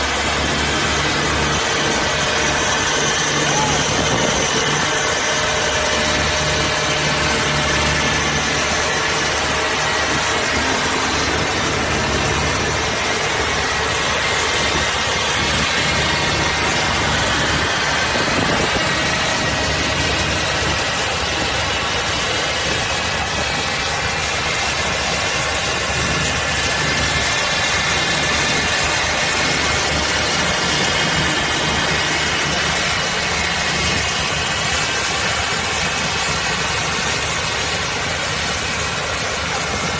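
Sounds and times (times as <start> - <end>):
tractor diesel engines running: 0.0 - 39.9.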